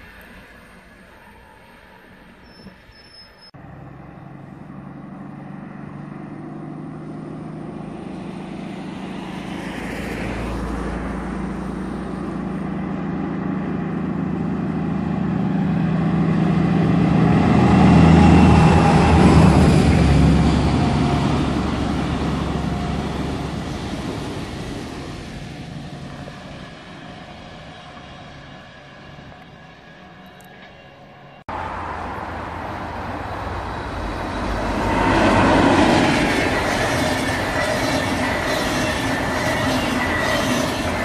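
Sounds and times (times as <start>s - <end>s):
diesel locomotive engine hum: 0.0s - 41.0s
train coaches running by: 0.0s - 41.0s.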